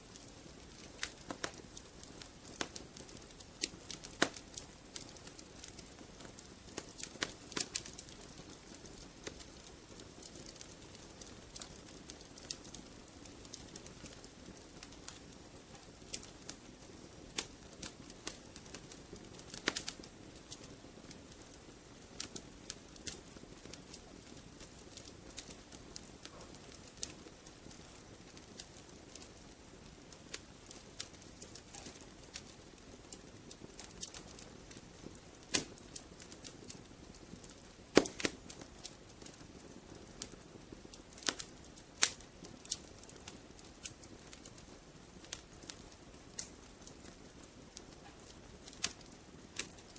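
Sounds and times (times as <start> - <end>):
soft steady hiss: 0.0 - 49.9
wood fire crackling and popping: 0.0 - 49.9.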